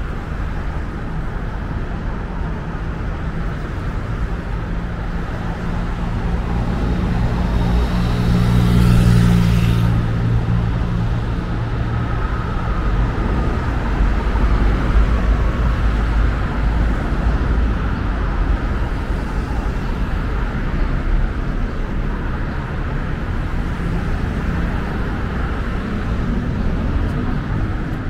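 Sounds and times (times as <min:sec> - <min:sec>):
street traffic rumble: 0:00.0 - 0:28.0.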